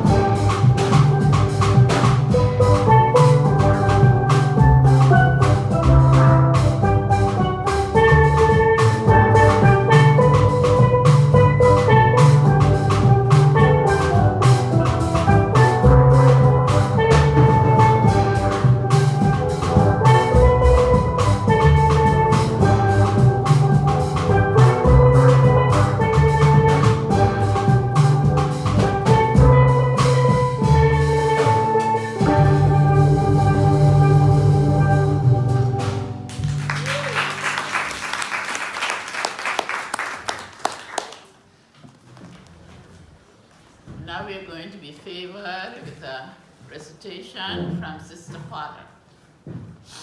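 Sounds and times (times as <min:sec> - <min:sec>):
live band playing: 0:00.0 - 0:40.5.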